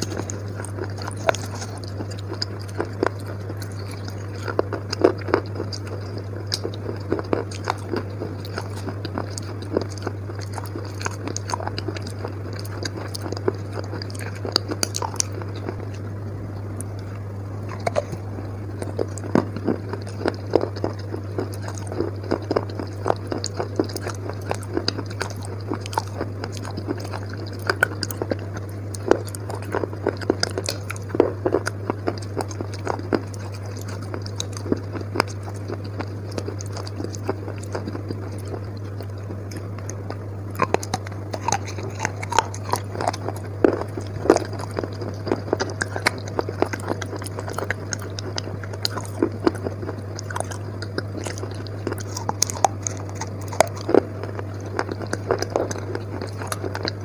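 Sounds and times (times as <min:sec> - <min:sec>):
chewing and crunching: 0:00.0 - 0:57.0
steady low hum: 0:00.0 - 0:57.0
wet mouth sounds: 0:00.0 - 0:57.0.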